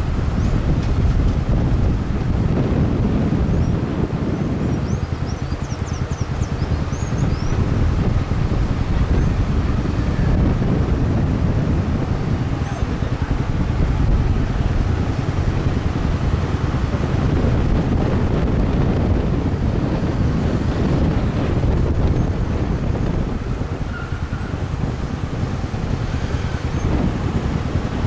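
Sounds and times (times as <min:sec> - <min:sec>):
street traffic rumble: 0:00.0 - 0:28.0
wind buffeting microphone: 0:00.0 - 0:28.0.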